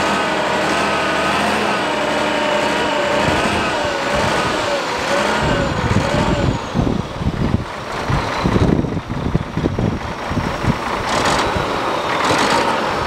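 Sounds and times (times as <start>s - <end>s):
diesel engine running: 0.0s - 13.0s
pitched whine wavering: 0.0s - 13.0s.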